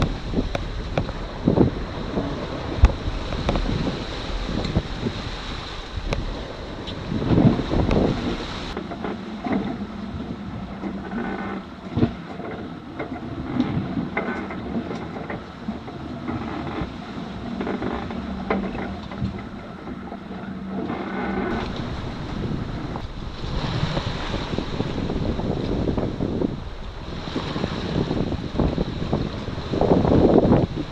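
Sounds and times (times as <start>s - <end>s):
low hum: 0.0s - 27.3s
sea noise: 0.0s - 30.9s
wind: 0.0s - 30.9s.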